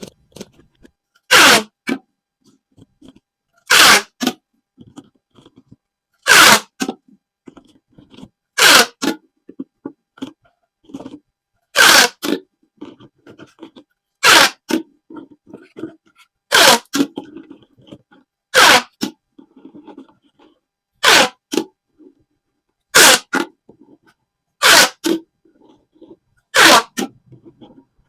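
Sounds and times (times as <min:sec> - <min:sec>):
ribbed plastic tube zipping: 0:00.0 - 0:02.0, 0:03.0 - 0:07.0, 0:07.6 - 0:09.2, 0:10.2 - 0:22.1, 0:22.9 - 0:23.5, 0:24.6 - 0:27.8.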